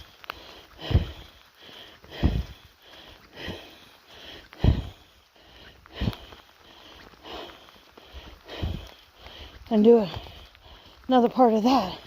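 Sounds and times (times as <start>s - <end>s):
person breathing hard: 0.0s - 11.1s.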